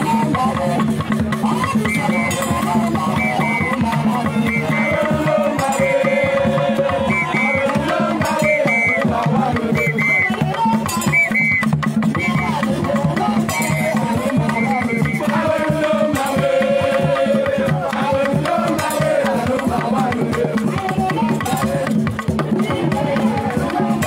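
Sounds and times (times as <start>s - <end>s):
drum-led dance music: 0.0s - 24.0s.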